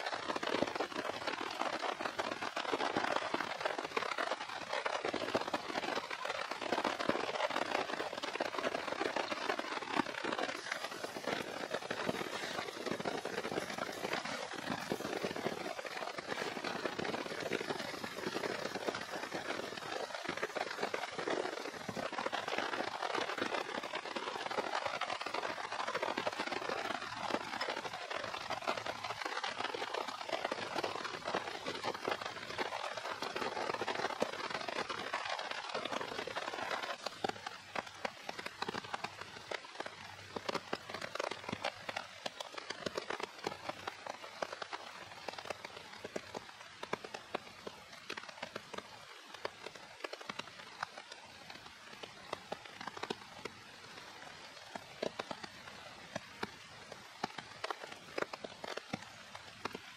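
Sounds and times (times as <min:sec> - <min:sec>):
campfire crackling and popping: 0:00.0 - 0:59.9
rain patter: 0:00.0 - 0:59.9.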